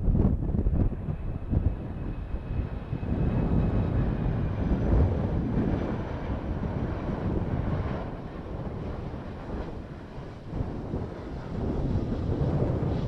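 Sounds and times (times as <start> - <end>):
jet engines rumbling: 0.0 - 13.0
wind buffeting microphone: 0.0 - 13.0.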